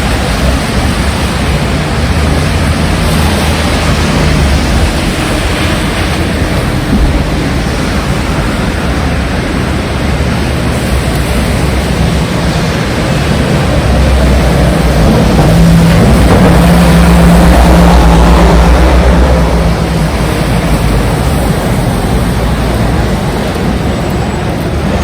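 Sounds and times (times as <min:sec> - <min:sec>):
heavy rain: 0:00.0 - 0:25.0
strong wind: 0:00.0 - 0:25.0.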